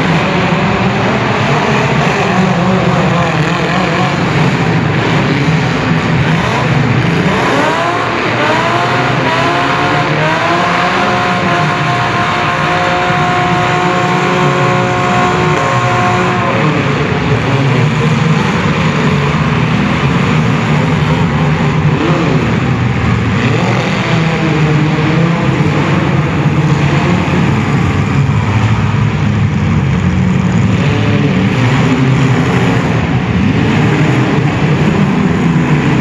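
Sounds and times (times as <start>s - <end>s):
car engine revving: 0.0s - 36.0s
car engines drone: 0.0s - 36.0s.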